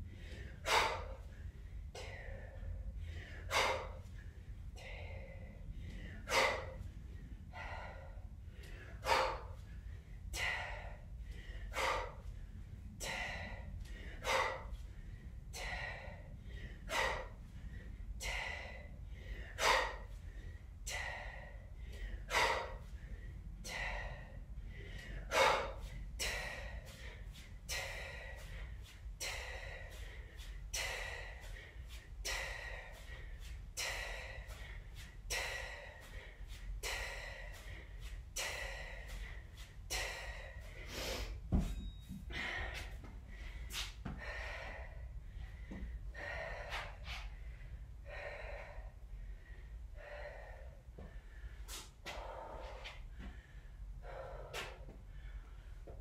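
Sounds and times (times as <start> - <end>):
woman breathing hard: 0.0 - 56.0.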